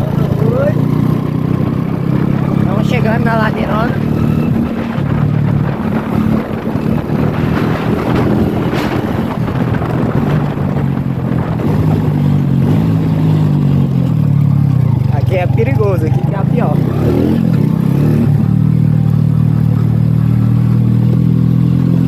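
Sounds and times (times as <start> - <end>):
wind buffeting microphone: 0.0 - 21.9
motorcycle engine running: 0.0 - 22.0.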